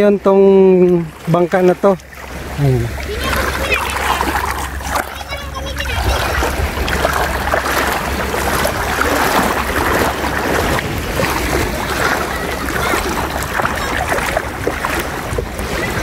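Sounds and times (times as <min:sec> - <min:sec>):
seawater splashing around legs: 0:00.8 - 0:16.0
wind rumble on microphone: 0:02.3 - 0:16.0.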